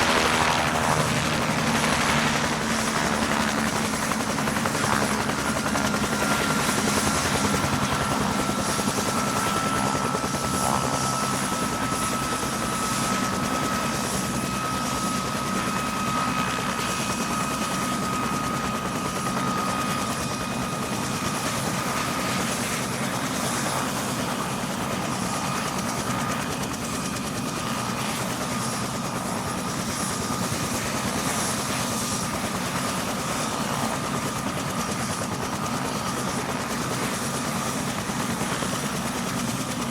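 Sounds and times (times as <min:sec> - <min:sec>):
helicopter rotor noise: 0:00.0 - 0:39.9.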